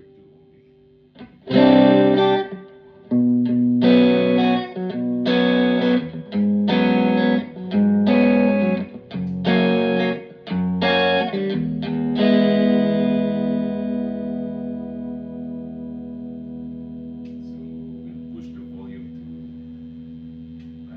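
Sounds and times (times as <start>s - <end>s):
electric guitar chords strummed: 1.2s - 20.9s.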